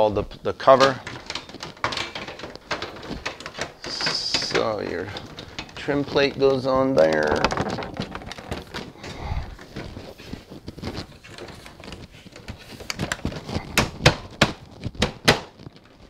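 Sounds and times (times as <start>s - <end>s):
hard plastic clicking and knocking: 0.6s - 16.0s.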